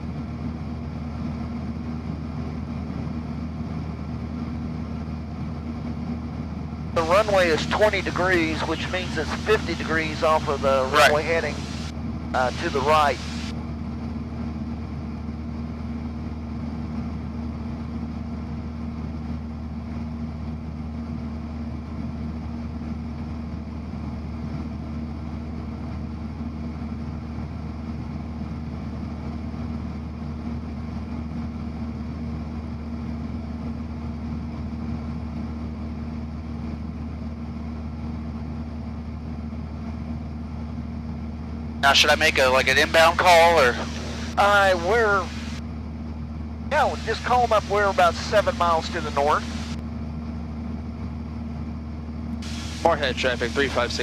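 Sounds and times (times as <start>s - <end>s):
light aircraft engine drone in cabin: 0.0s - 54.0s.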